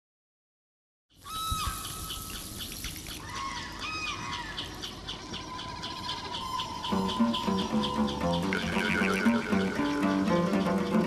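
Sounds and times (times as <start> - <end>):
flock of birds chirping: 1.1 - 11.0
steady outdoor hiss: 1.1 - 11.0.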